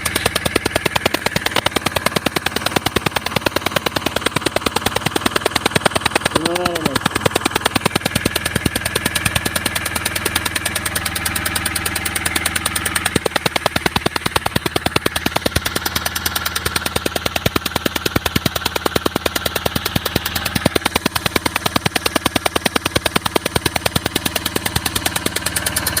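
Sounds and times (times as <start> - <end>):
engine idling with rapid ticking: 0.0 - 26.0.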